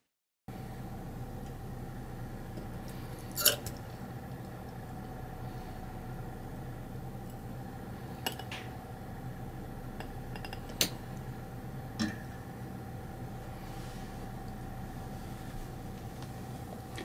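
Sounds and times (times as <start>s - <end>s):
steady low hum: 0.5s - 17.0s.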